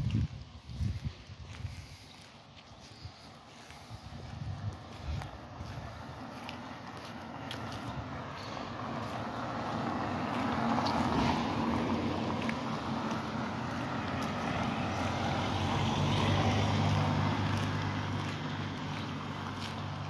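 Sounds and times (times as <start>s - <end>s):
cars driving past: 1.7s - 20.0s.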